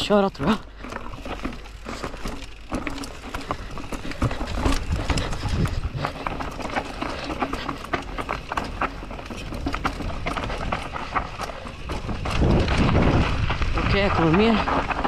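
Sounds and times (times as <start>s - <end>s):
bike rattling over rough trail: 0.0s - 15.0s
wind rumble: 1.2s - 15.0s.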